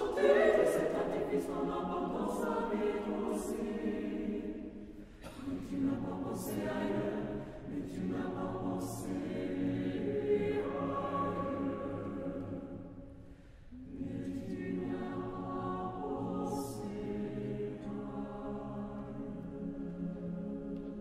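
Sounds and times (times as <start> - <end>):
mixed choir singing: 0.0 - 21.0.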